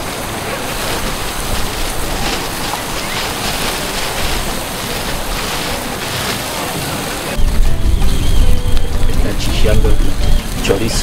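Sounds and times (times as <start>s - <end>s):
fire crackling: 0.0s - 11.0s
meat sizzling on a grill: 0.0s - 11.0s.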